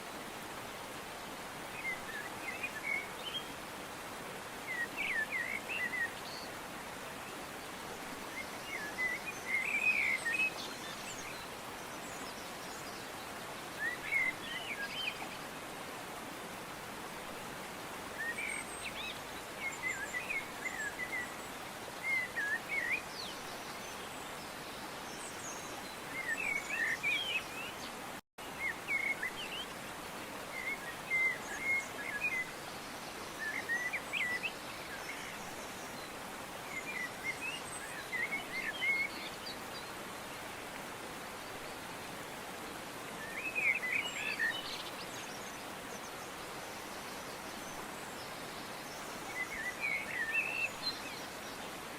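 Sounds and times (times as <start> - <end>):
steady outdoor hiss: 0.0 - 51.9
songbirds chirping: 0.1 - 51.9.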